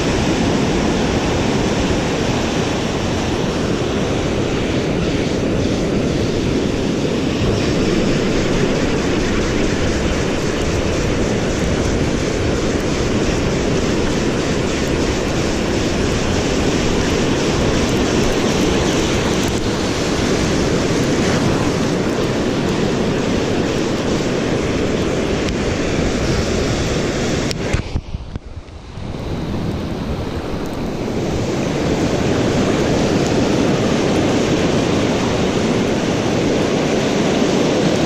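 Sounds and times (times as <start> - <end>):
ocean surf washing on sand: 0.0 - 38.0
wind buffeting microphone: 0.0 - 38.0.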